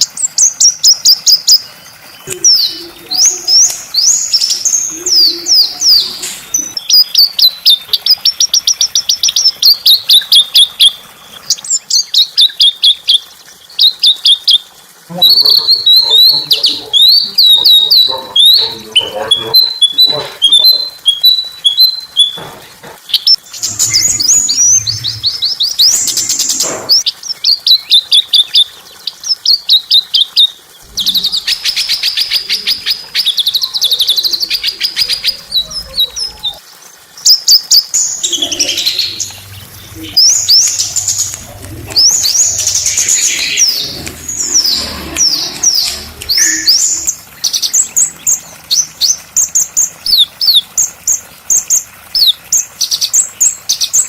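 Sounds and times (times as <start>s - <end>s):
small songbirds singing: 0.0s - 54.0s.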